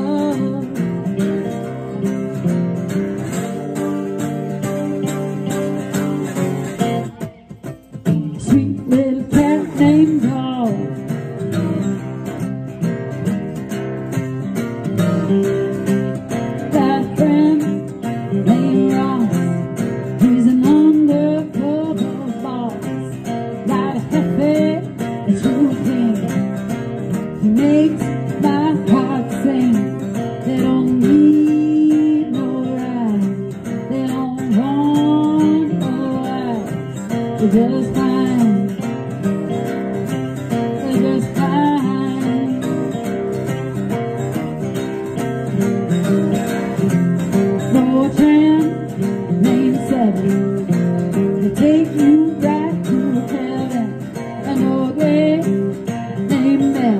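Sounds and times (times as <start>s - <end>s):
woman singing: 0.0s - 12.6s, 14.3s - 44.2s, 44.8s - 56.9s
acoustic guitars strumming: 0.0s - 56.9s.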